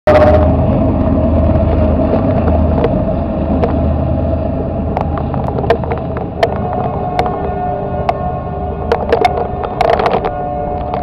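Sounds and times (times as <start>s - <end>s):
diesel locomotive engine rumble: 0.0s - 11.0s
wheels clicking over rail joints: 1.0s - 11.0s.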